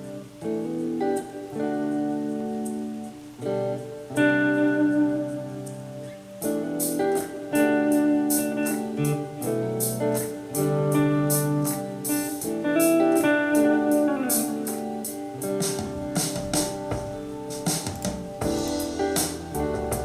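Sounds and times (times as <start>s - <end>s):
backing track with drums: 0.0s - 20.0s
electric guitar lead: 0.0s - 20.0s.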